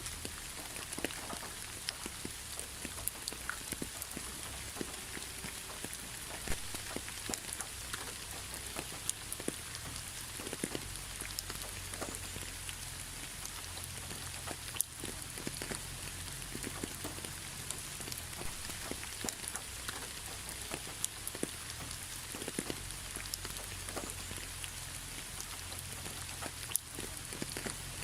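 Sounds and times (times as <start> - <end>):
steady rain hiss: 0.0 - 28.0
drops ticking on a hard surface: 0.2 - 24.6.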